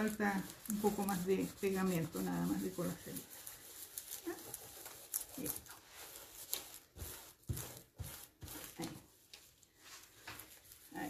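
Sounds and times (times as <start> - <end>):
plastic sheet rustling and crinkling: 0.0 - 11.0.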